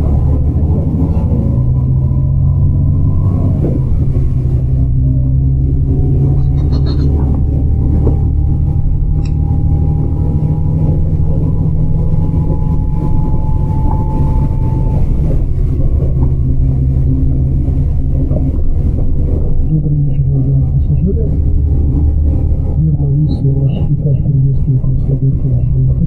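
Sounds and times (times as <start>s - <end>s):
thin whine rising: 0.0s - 24.5s
bus engine rumble: 0.0s - 26.0s.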